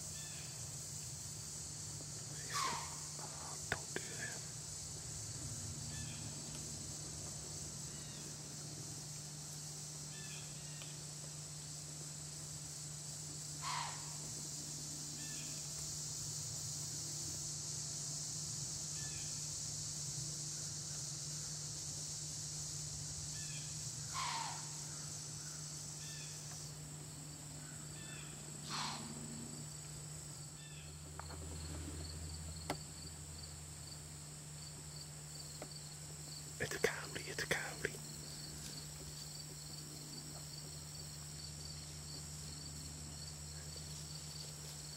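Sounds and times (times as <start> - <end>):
crickets and insects chorus: 0.0 - 44.9.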